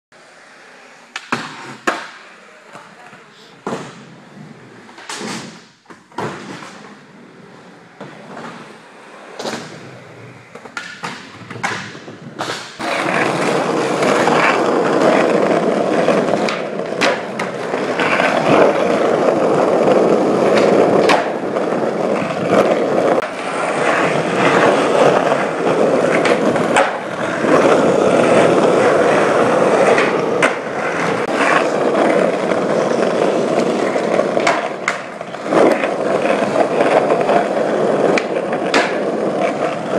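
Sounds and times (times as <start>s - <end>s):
skateboard wheels rolling on concrete: 0.1s - 39.9s
skateboard clacking: 0.3s - 39.9s.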